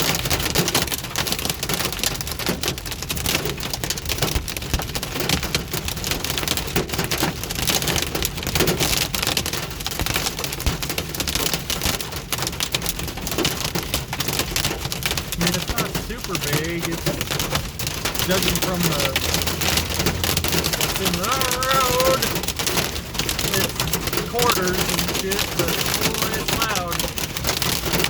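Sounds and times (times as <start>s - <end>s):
hail pelting a vehicle: 0.0s - 28.0s.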